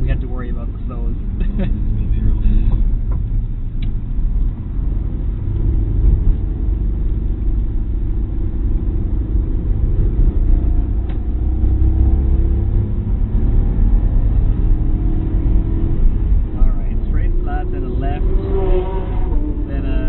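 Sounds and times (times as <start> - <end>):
car engine accelerating: 0.0 - 20.0
road and tyre rumble: 0.0 - 20.0.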